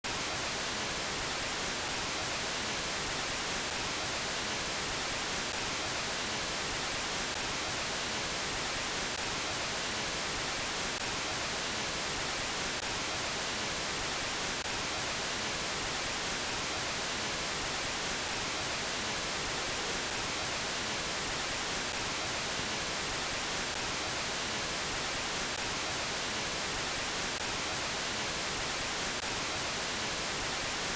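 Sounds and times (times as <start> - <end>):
white noise hiss: 0.0 - 30.9.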